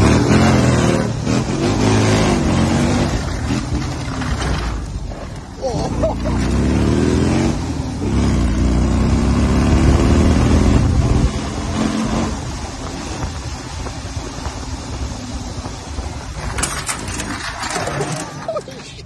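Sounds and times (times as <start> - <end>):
engine running under throttle: 0.0 - 18.4.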